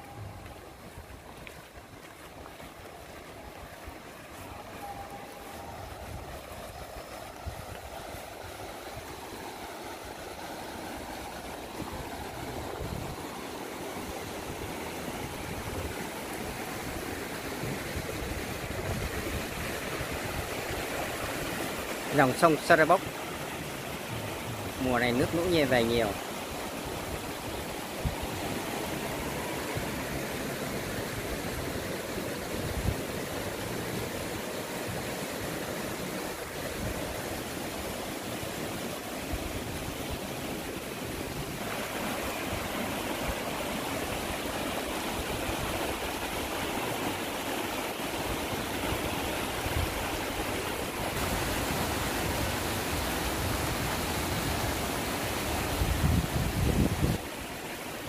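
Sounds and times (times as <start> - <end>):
river rushing: 0.0 - 58.0
water churning over rocks: 0.0 - 58.0.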